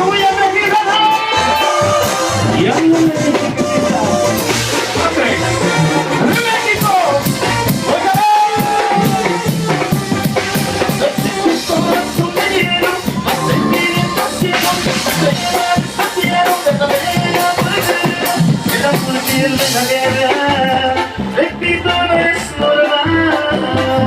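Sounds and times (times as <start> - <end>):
band playing instrumental: 0.0 - 24.0
drum kit beat: 0.0 - 24.0.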